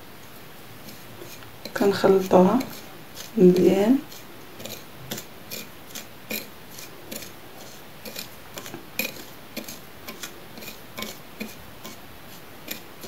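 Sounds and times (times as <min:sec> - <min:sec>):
plastic spoon scraping ceramic plate: 0:00.8 - 0:12.9.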